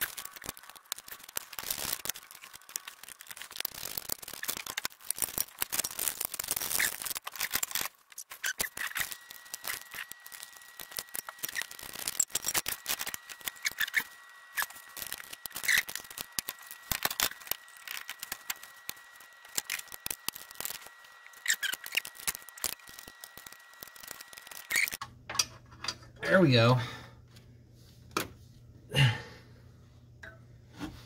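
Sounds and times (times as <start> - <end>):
faint high whine: 0.0 - 25.1.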